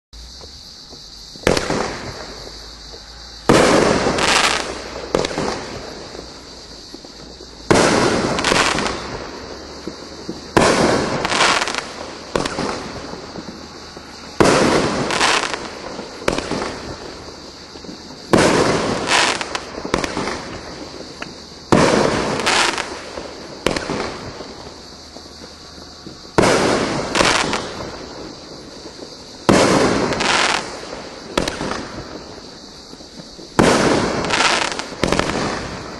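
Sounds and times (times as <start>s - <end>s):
firework bangs: 0.2s - 35.9s.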